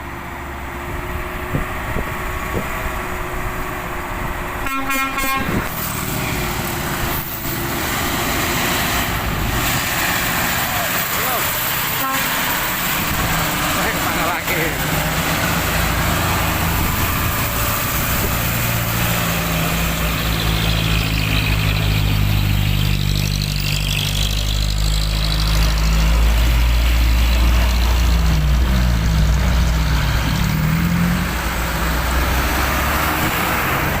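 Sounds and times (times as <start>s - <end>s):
heavy vehicle engine running: 0.0s - 34.0s.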